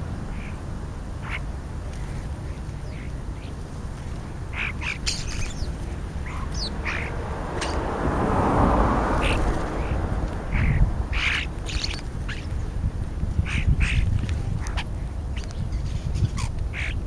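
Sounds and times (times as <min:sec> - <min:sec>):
starlings squawking and chattering: 0:00.0 - 0:17.0
steady low rumble: 0:00.0 - 0:17.0.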